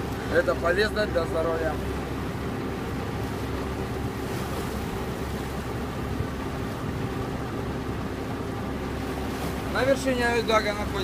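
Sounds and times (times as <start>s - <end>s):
boat engine droning: 0.0s - 11.0s
water rushing along hull: 0.0s - 11.0s.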